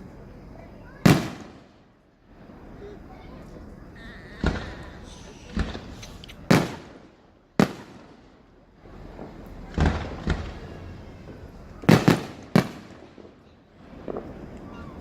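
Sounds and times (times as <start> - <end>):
fireworks booming with echo: 0.0 - 15.0.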